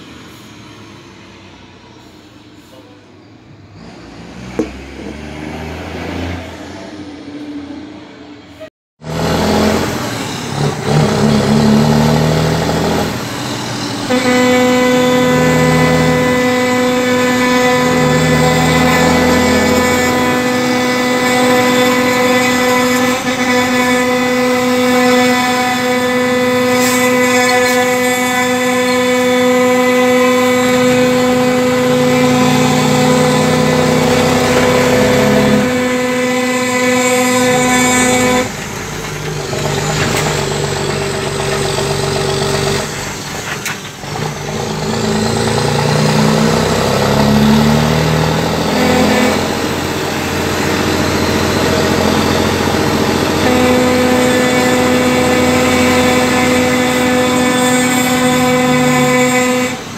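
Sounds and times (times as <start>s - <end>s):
road noise: 0.0s - 59.9s
truck engine drone: 0.0s - 59.9s.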